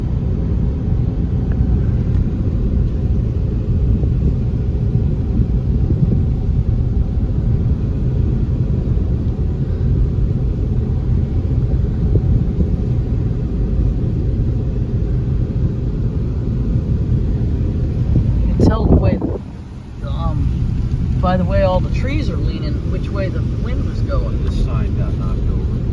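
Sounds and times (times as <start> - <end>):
car driving rumble: 0.0 - 25.9
road and wind noise: 0.0 - 25.9.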